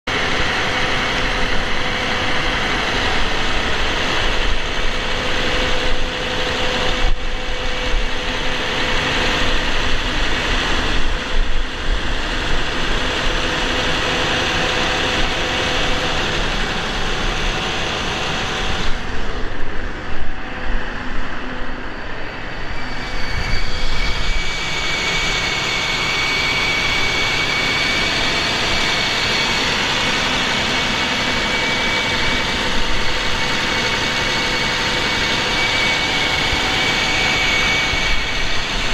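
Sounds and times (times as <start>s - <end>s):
steady high whine: 0.0s - 38.9s.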